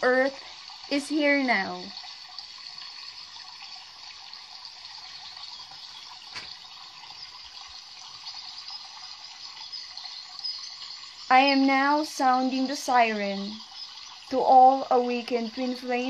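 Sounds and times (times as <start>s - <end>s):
trickling water: 0.0s - 16.0s.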